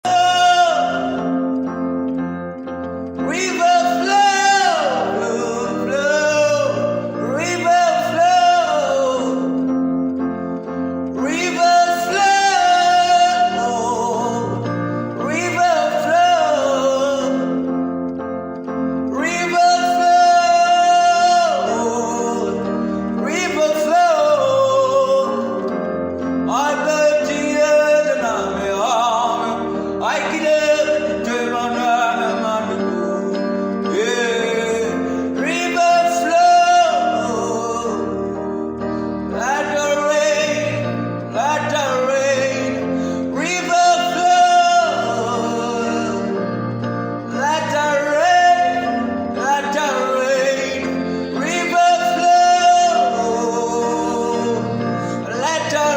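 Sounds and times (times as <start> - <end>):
man singing devotional song: 0.0 - 2.1, 2.8 - 17.9, 18.6 - 55.9
instrumental accompaniment: 0.0 - 55.9.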